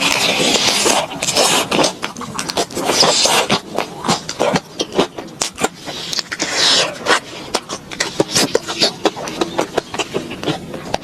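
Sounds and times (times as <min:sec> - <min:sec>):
crunchy chewing: 0:00.0 - 0:11.0
wet mouth clicks: 0:00.0 - 0:11.0.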